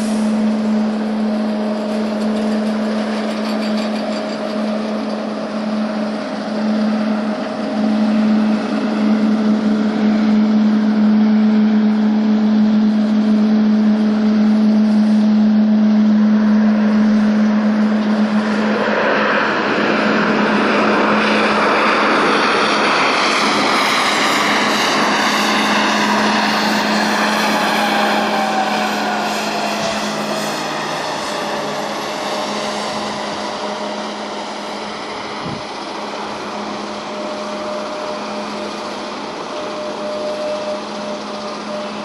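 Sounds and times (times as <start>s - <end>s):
falling jet whine: 0.0s - 42.0s
jet engines roaring: 0.0s - 42.0s.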